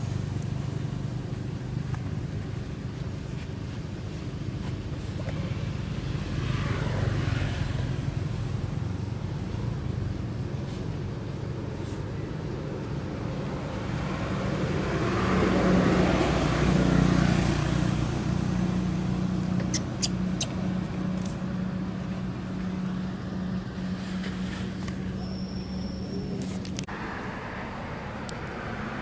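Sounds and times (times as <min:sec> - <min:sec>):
low engine hum: 0:00.0 - 0:29.0
road vehicle passing: 0:00.0 - 0:29.0.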